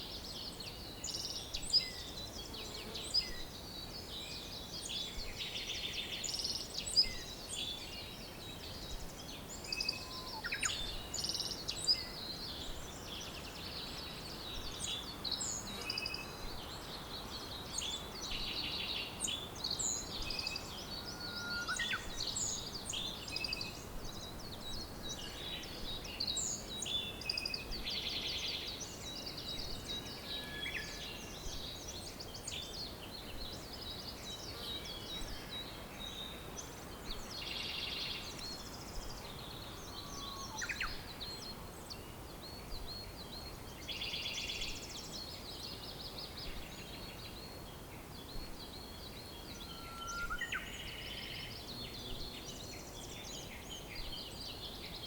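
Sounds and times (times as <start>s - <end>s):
outdoor ambience hiss: 0.0s - 55.0s
songbirds chirping and whistling: 0.0s - 55.0s.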